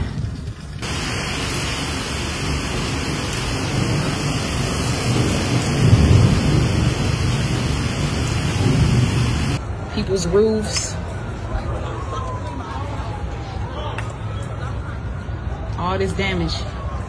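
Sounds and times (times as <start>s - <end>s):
heavy rain and wind: 0.0s - 17.0s.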